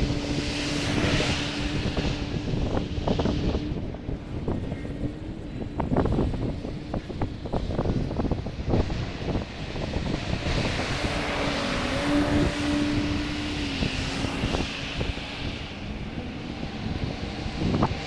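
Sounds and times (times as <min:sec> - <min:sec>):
aircraft engine drone: 0:00.0 - 0:18.0
wind rumbling on microphone: 0:00.0 - 0:18.0.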